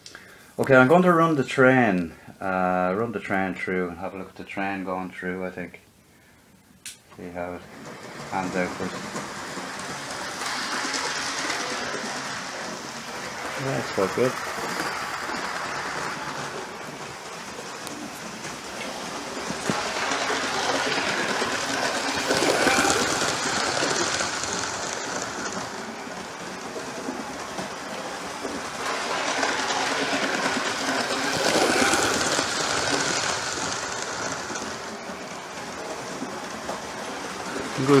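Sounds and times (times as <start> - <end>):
model train wheels rattling: 7.2 - 38.0.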